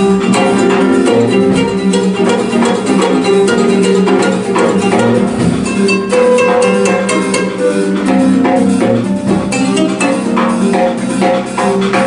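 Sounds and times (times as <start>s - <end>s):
plucked strings and guitar: 0.0s - 12.0s.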